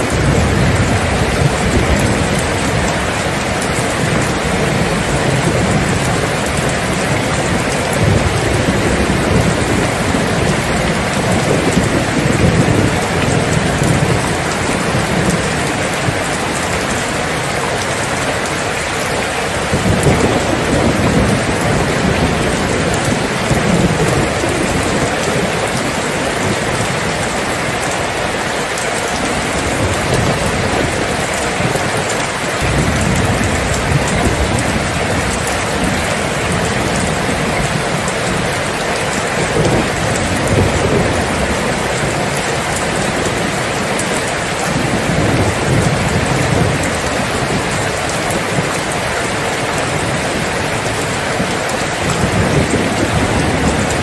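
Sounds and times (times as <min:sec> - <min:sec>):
heavy rain: 0:00.0 - 0:54.0
low thunder rumbling: 0:00.0 - 0:54.0.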